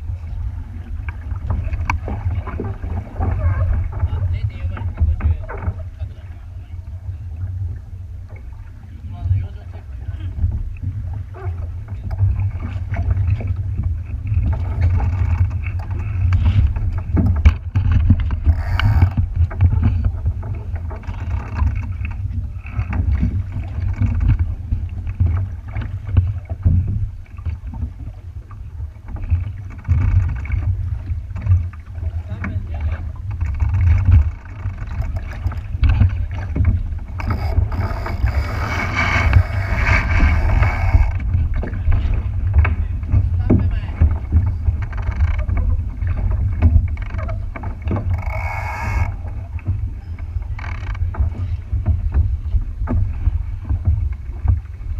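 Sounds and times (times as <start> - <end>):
water slapping against boat hull: 0.0 - 54.9
wind rumbling on microphone: 0.0 - 54.9.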